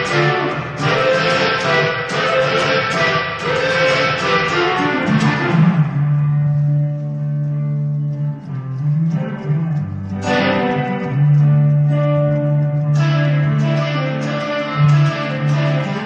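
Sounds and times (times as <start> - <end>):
electric guitar played through amp: 0.0 - 16.0.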